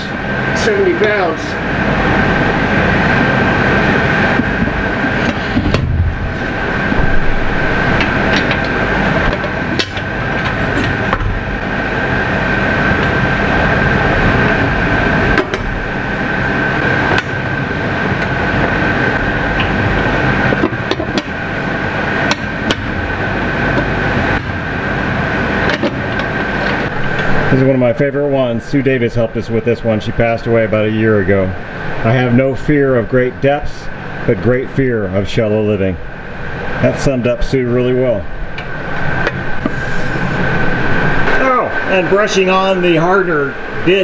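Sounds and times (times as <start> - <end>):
mechanical drone with high whine: 0.0 - 44.0.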